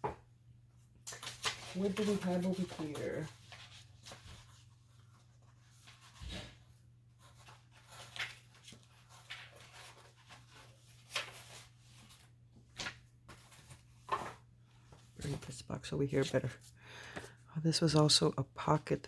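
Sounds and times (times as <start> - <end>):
paper rustling: 1.0 - 17.4.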